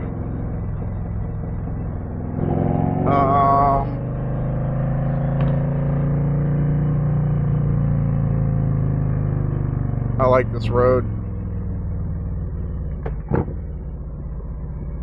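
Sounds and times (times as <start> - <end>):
motorcycle engine riding: 0.0 - 15.0.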